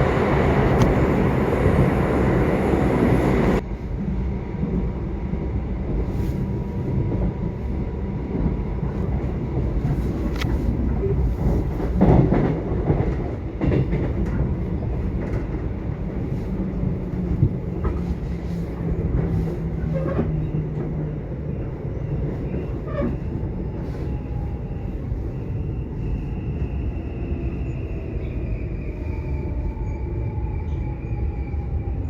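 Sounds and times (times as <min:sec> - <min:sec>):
subway train rumbling: 0:00.0 - 0:32.0.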